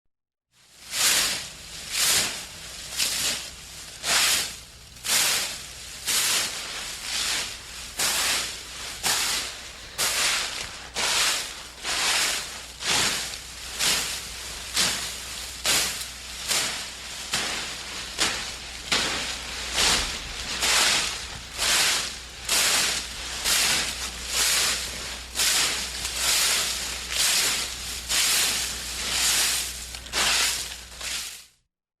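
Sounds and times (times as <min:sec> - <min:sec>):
rake scraping through dry leaves: 0:00.6 - 0:31.6.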